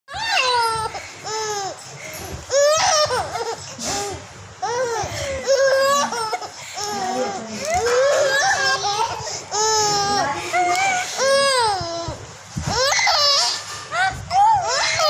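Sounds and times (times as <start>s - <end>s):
baby laughing: 0.1s - 15.0s.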